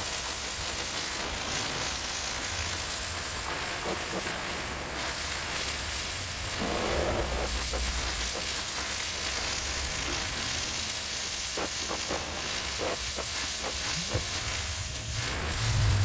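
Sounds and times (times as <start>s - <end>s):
pressure washer spraying: 0.7s - 16.0s.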